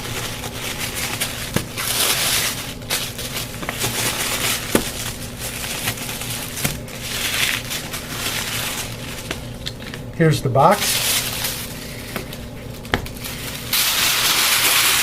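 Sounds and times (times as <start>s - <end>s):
wrapping paper rustling: 0.0s - 15.0s.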